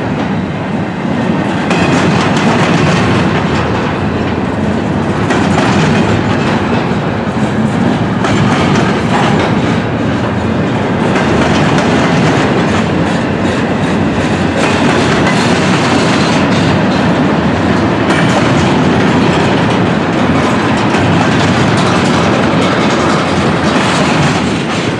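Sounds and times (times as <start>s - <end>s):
freight train rumble: 0.0s - 24.9s
train wheels clickety-clacking: 0.0s - 24.9s.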